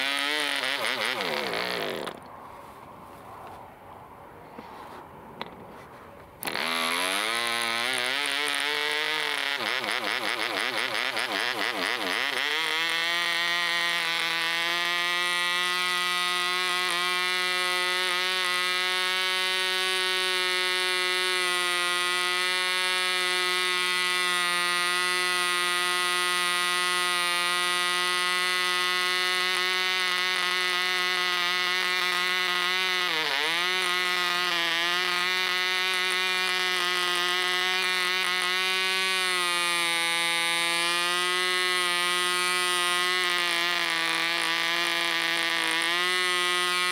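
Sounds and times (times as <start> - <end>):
model diesel engine running high speed: 0.0 - 2.3, 6.4 - 46.9.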